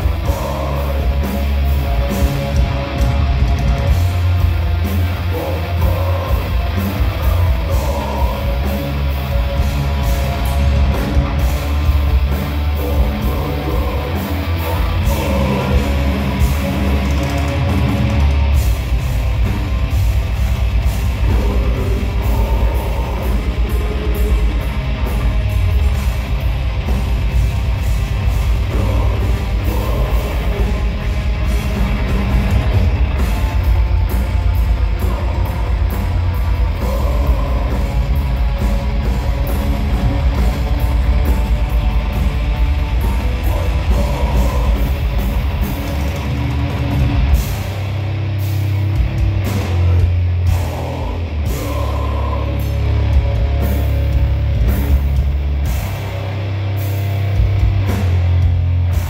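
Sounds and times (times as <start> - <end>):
fast dense drumming: 0.0 - 59.0
heavy rock band playing: 0.0 - 59.0.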